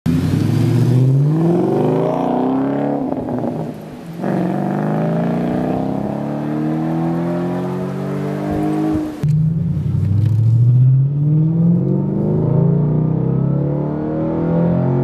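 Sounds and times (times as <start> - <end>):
car engine accelerating hard: 0.1 - 15.0.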